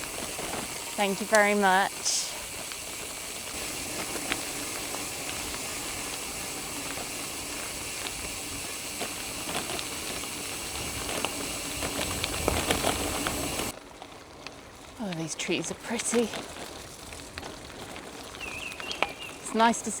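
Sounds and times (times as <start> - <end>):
bike tyres rolling on gravel: 0.0 - 20.0.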